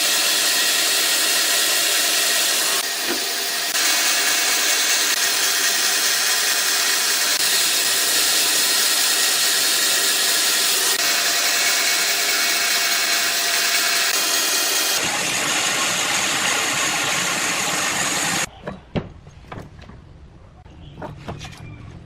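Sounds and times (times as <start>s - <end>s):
power tool whining on wood: 0.0s - 18.5s.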